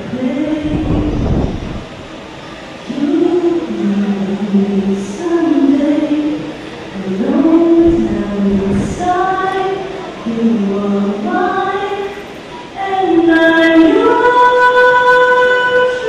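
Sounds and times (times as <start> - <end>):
woman singing slow song: 0.0 - 2.1, 2.9 - 16.0.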